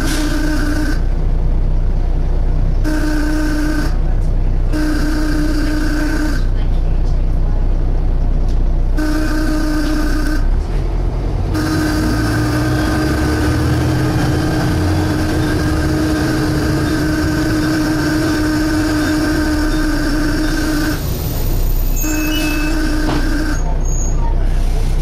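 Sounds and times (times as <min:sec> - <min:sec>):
loud droning whine: 0:00.0 - 0:24.1
bus engine rumble: 0:00.0 - 0:25.0.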